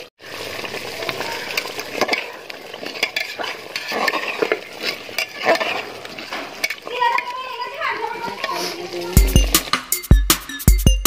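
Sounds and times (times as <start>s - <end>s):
wooden spatula scraping a pot: 0.0s - 10.0s
curry sizzling: 0.0s - 10.8s.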